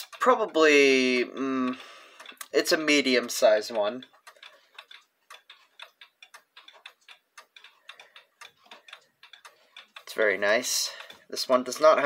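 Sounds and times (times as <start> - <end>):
pendulum clock ticking: 0.0 - 12.0.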